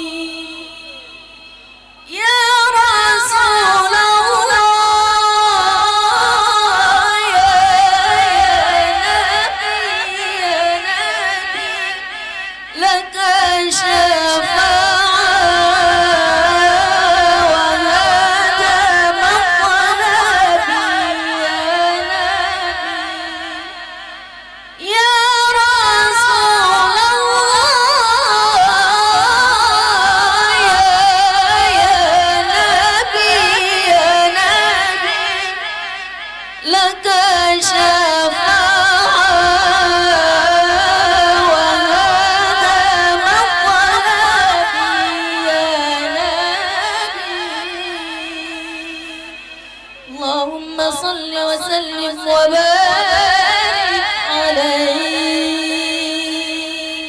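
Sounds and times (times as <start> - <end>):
woman chanting melodically: 0.0 - 57.0.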